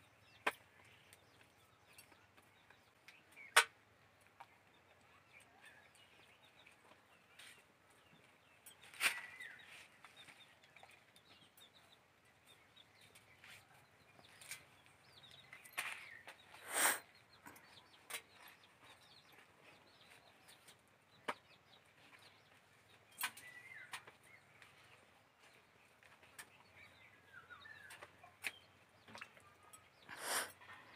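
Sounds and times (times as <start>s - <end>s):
birds calling: 0.0s - 30.9s.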